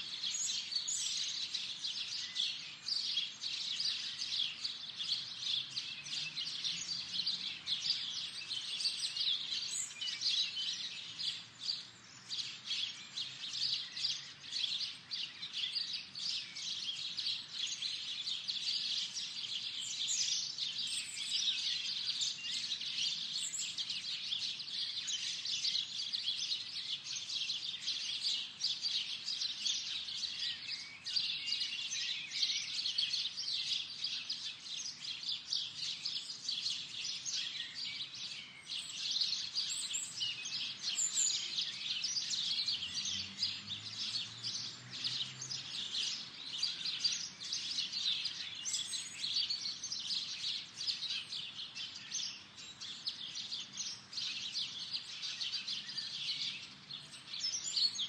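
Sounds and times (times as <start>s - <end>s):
birds chirping chorus: 0.0s - 58.0s.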